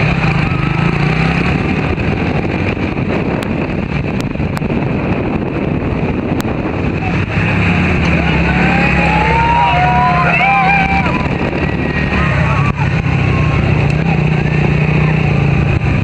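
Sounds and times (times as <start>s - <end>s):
vehicle engine rumbling: 0.0s - 16.0s
wind buffeting microphone: 0.0s - 16.0s.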